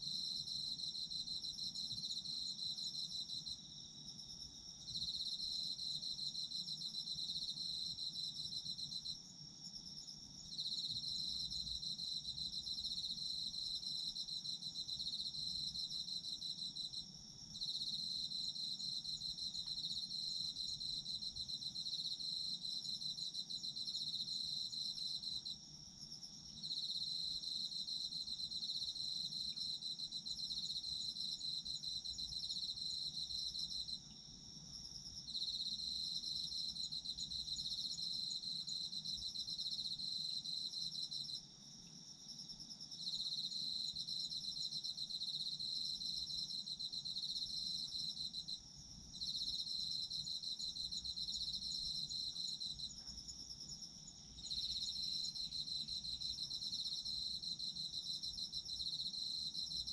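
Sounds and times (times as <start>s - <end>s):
faint insect chorus: 0.0s - 59.9s.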